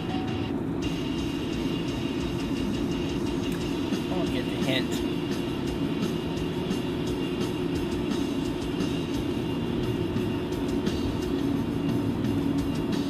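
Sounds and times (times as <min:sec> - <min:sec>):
road and tyre noise in car: 0:00.0 - 0:13.0
ventilation fan blowing: 0:00.0 - 0:13.0.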